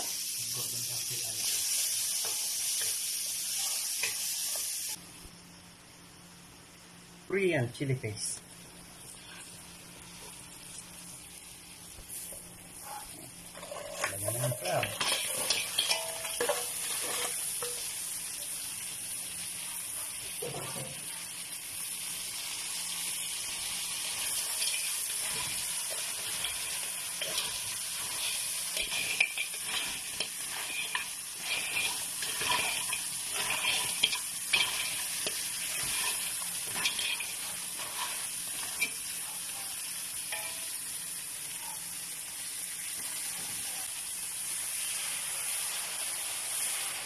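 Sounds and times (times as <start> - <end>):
crabs sizzling in a wok: 0.0 - 47.0.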